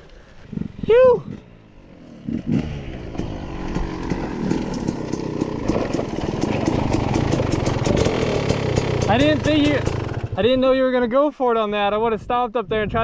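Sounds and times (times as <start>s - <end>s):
dirt bike engine running: 0.3s - 10.9s.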